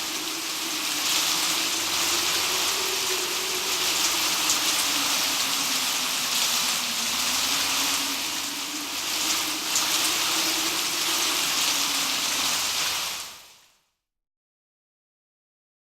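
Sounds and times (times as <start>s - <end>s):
low wavering wind moan: 0.0s - 13.4s
heavy rain hissing: 0.0s - 13.8s.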